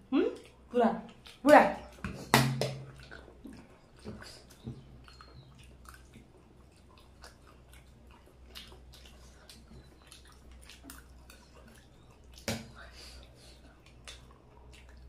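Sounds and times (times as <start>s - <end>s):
chewing and wet mouth sounds: 0.0s - 15.0s.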